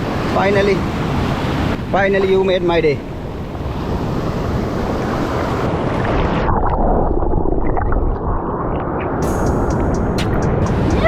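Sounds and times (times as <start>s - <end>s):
surf: 0.0s - 8.1s, 8.7s - 11.0s
wind on the microphone: 0.0s - 11.0s.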